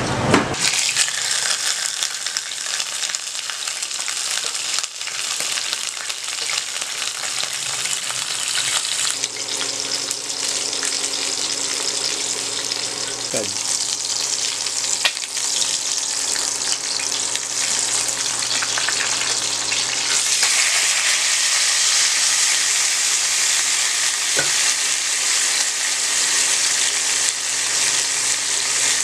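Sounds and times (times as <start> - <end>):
fish sizzling in hot oil: 0.6 - 29.0.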